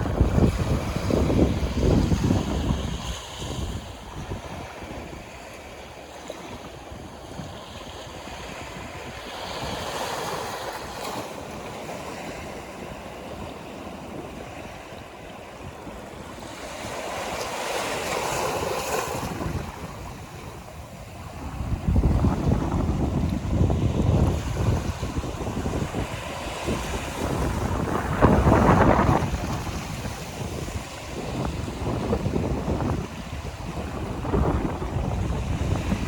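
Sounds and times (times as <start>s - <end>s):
sea waves breaking on shore: 0.0s - 36.0s
wind rumbling on microphone: 0.0s - 36.0s.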